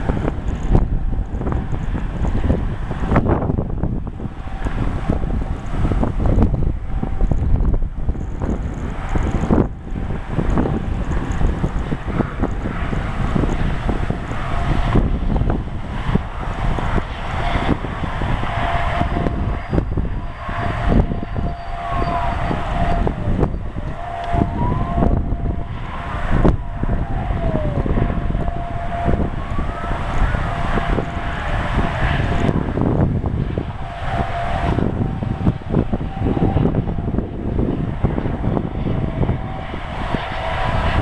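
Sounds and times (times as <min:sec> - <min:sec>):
steady whistling tone: 0:00.0 - 0:41.0
wind buffeting microphone: 0:00.0 - 0:41.0.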